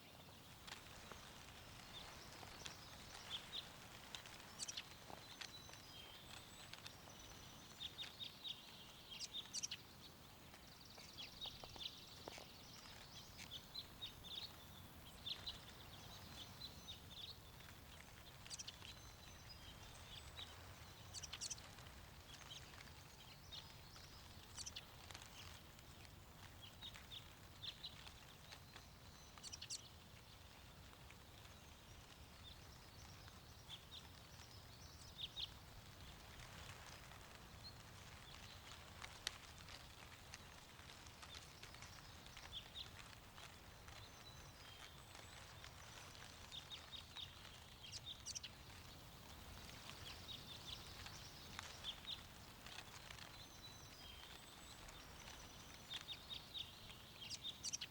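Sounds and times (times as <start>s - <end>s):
songbirds chirping and trilling: 0.0s - 57.9s.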